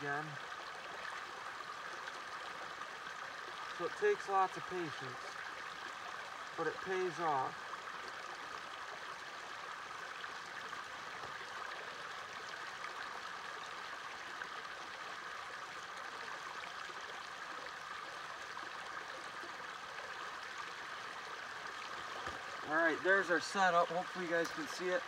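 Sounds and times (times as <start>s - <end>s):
small stream flowing: 0.0s - 25.0s.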